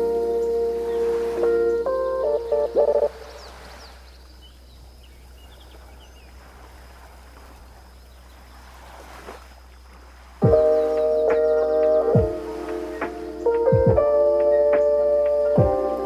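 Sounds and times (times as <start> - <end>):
faint bird chirps: 0.0 - 8.8, 9.6 - 16.0
sea waves washing on beach: 0.0 - 16.0.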